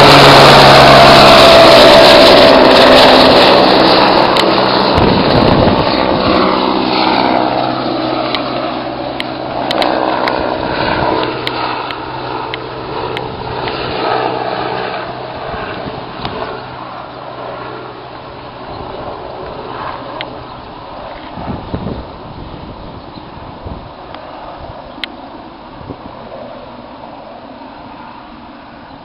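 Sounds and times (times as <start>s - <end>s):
helicopter flying overhead: 0.0s - 29.0s.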